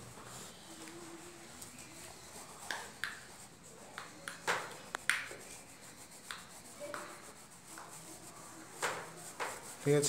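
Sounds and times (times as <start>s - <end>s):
fingertip rubbing paper: 0.0s - 10.0s.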